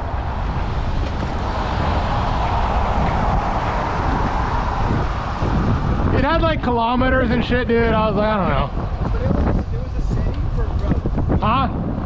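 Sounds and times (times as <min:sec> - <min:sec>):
car passing: 0:00.0 - 0:12.0
steady low rumble: 0:00.0 - 0:12.0.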